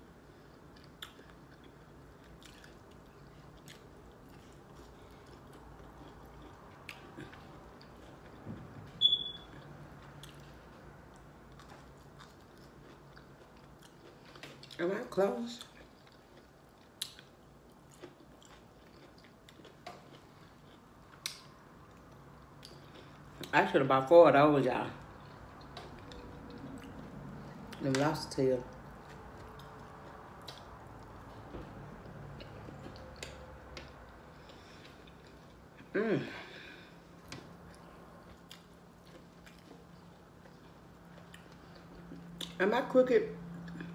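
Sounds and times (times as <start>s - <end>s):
chewing asparagus: 0.4s - 8.7s, 9.5s - 23.6s, 25.0s - 42.6s.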